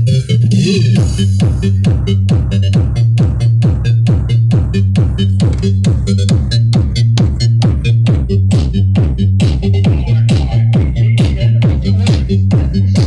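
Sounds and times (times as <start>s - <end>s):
loud electronic dance music: 0.0s - 13.0s.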